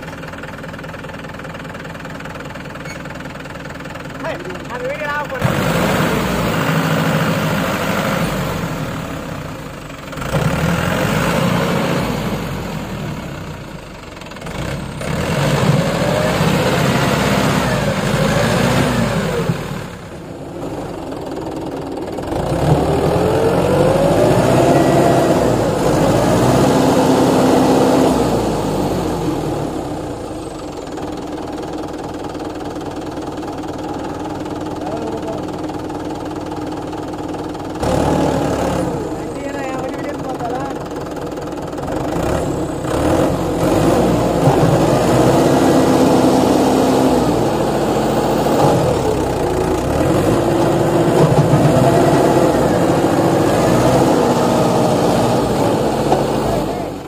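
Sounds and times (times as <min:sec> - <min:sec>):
tractor diesel engine revving: 0:00.0 - 0:57.0.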